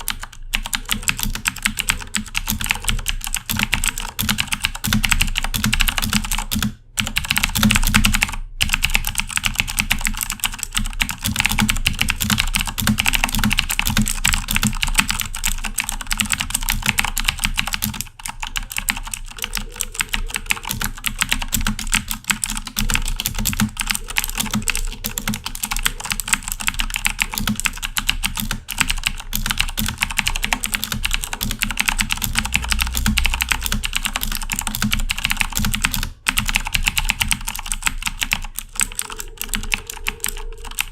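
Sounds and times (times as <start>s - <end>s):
fast typing on clicky keyboard: 0.0s - 40.9s.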